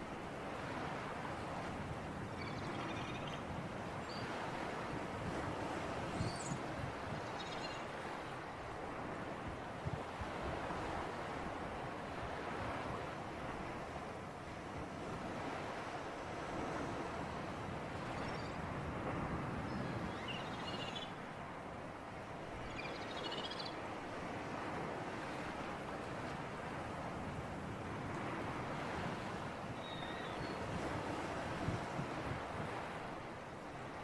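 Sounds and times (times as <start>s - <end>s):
sea surf: 0.0s - 34.0s
wind: 0.0s - 34.0s.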